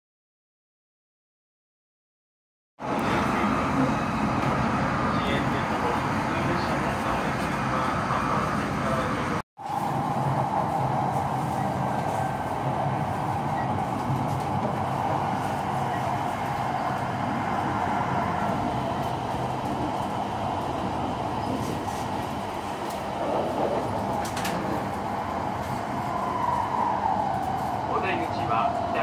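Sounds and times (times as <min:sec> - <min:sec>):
train running noise rumble: 0:02.8 - 0:29.0.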